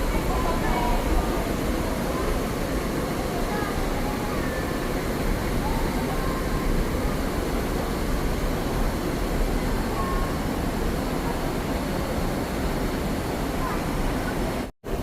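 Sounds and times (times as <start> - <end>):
flowing stream water: 0.0 - 15.0.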